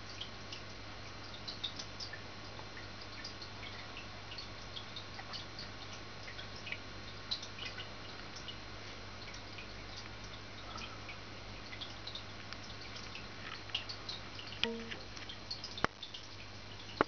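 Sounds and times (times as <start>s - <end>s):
steady low hum: 0.0s - 17.0s
water trickling and dripping: 0.0s - 17.0s.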